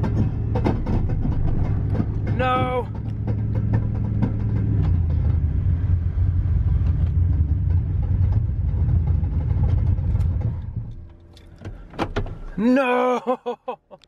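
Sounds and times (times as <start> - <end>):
rapid knocks and rattles underneath: 0.0 - 12.5
truck engine droning at low revs: 0.0 - 13.4.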